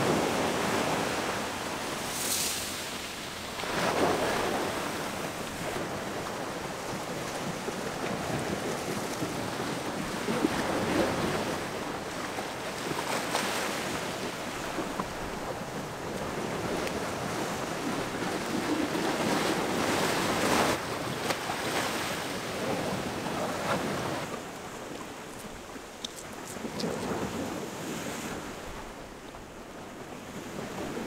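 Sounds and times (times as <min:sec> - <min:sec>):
waves washing onto shore: 0:00.0 - 0:31.0
wind: 0:00.0 - 0:31.0.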